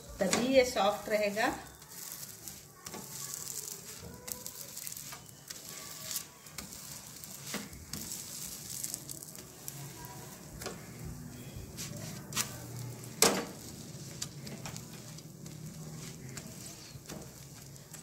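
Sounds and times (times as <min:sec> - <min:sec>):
flatbread sizzling on a pan: 0:00.0 - 0:18.0
spatula scraping and tapping pan: 0:00.0 - 0:18.0.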